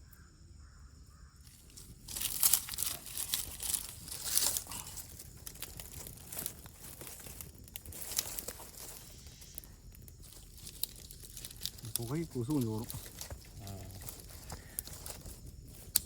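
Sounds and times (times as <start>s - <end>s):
dry leaves and twigs crackling: 0.0s - 16.0s.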